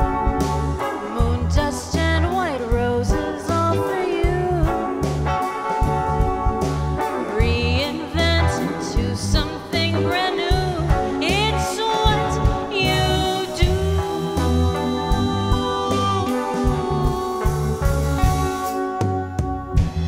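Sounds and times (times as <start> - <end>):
drum kit beat: 0.0 - 20.0
electric bass: 0.0 - 20.0
woman singing: 0.8 - 5.0, 7.1 - 19.0.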